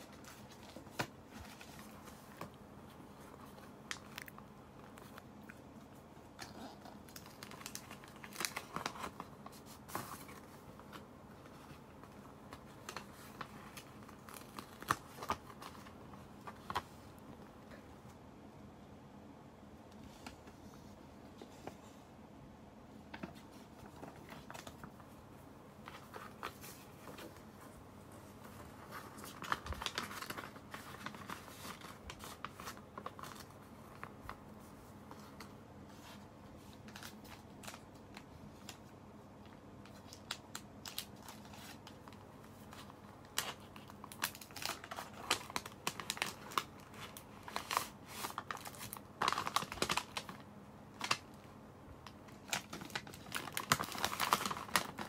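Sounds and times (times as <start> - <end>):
paper rustling and crinkling: 0.0 - 17.4, 23.0 - 51.3, 52.0 - 55.0.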